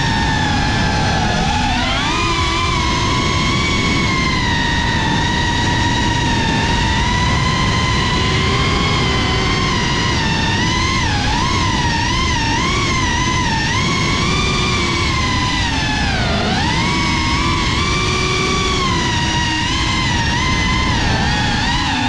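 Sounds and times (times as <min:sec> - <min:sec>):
drone motors whining: 0:00.0 - 0:22.0
wind on microphone: 0:00.0 - 0:22.0.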